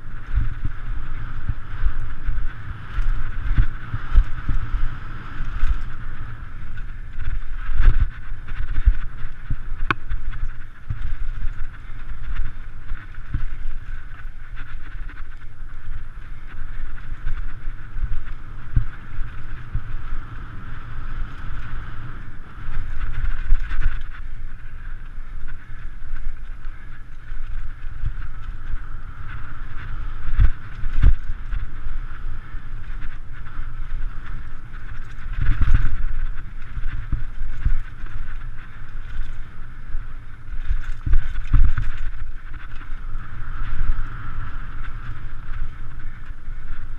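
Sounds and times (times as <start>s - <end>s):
bike knocking and rattling: 0.0s - 46.9s
tyres rumbling on dirt: 0.0s - 46.9s
wind buffeting microphone: 0.0s - 46.9s.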